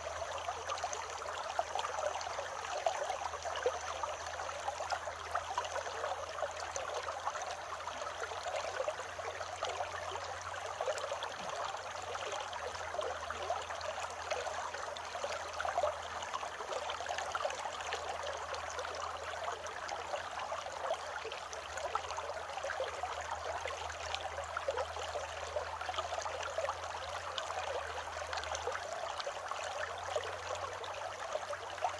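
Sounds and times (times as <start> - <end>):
creek babbling over stones: 0.0 - 31.9
faint cicada drone: 0.0 - 31.9.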